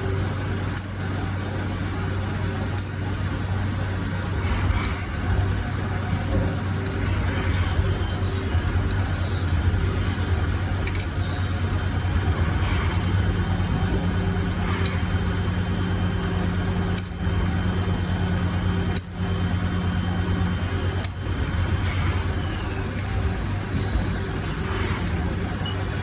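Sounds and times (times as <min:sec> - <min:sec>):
lathe machine hum: 0:00.0 - 0:26.0.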